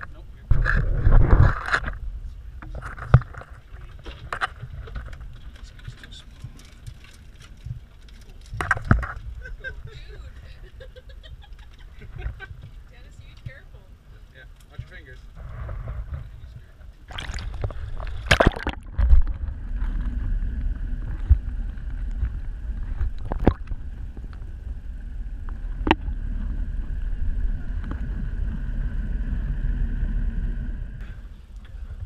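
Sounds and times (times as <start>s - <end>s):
underwater higher hum: 0.0s - 32.0s
underwater low rumble: 0.0s - 32.0s.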